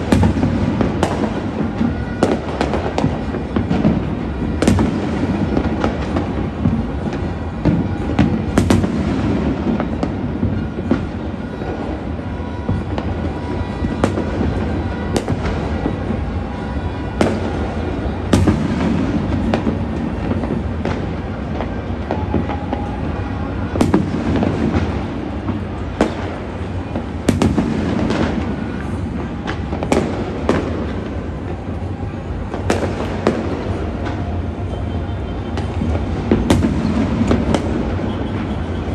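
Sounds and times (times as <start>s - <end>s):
distant fireworks rumble and crackle: 0.0s - 38.9s
firework bangs: 0.0s - 38.9s.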